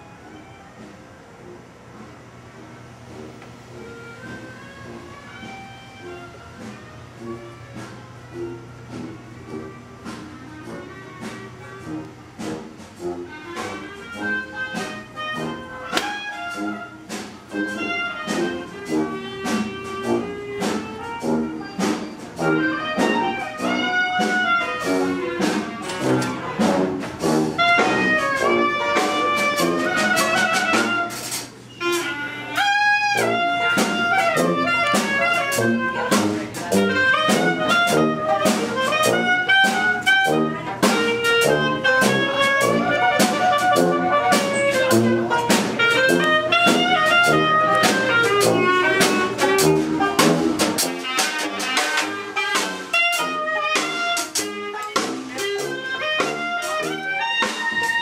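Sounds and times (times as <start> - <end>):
horns playing melody: 0.0 - 58.0
drum kit: 1.9 - 58.0.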